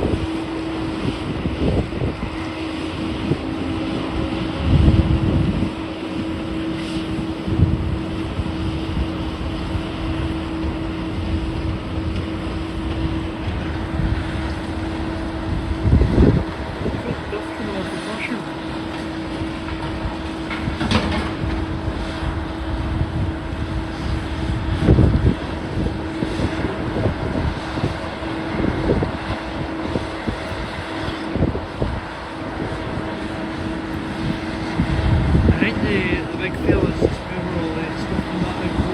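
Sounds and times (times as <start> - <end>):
constant hum: 0.0 - 38.9
heavy machinery engine rumble: 0.0 - 38.9
wind on microphone: 0.0 - 38.9.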